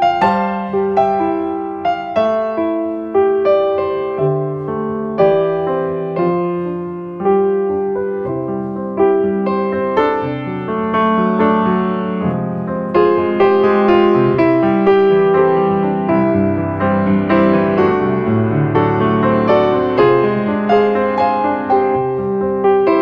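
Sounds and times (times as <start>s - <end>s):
slow gentle piano music: 0.0s - 23.0s.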